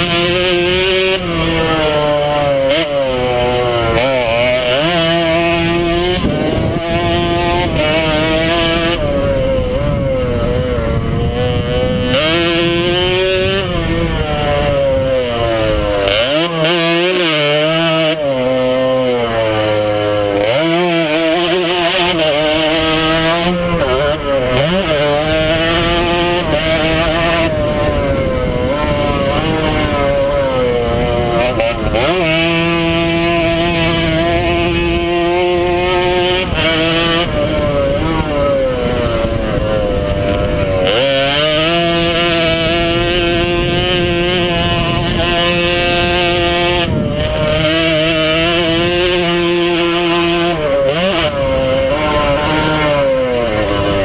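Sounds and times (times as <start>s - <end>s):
two-stroke motorbike engine revving: 0.0s - 54.0s.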